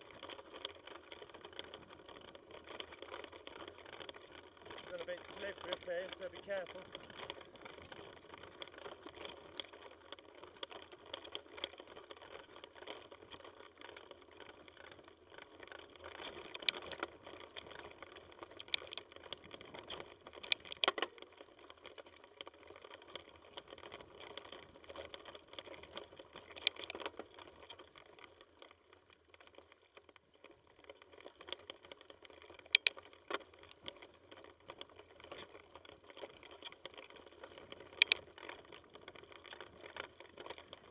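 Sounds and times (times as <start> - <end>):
bike tyres rumbling on dirt trail: 0.0 - 40.9.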